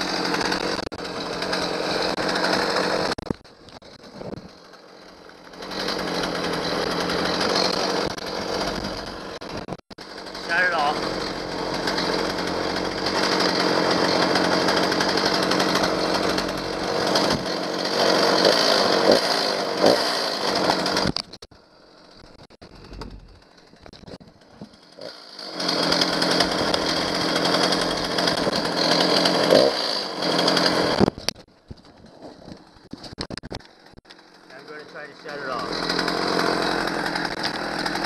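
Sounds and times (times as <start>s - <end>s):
chainsaw engine running: 0.0s - 38.0s.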